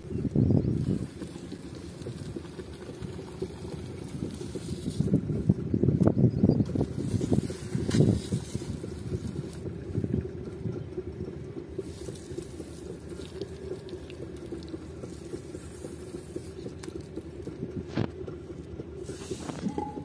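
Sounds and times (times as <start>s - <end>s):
pottery wheel humming and rattling: 0.0s - 20.0s.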